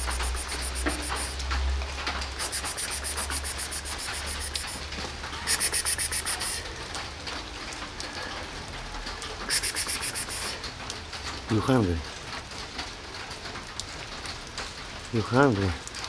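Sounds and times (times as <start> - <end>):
dripping patter: 0.0 - 16.0
rain on wet pavement: 0.0 - 16.0.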